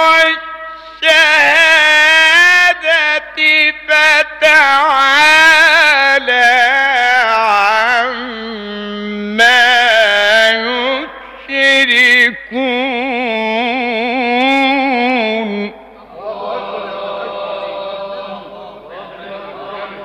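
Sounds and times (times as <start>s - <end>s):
man chanting melodically: 0.0s - 20.0s.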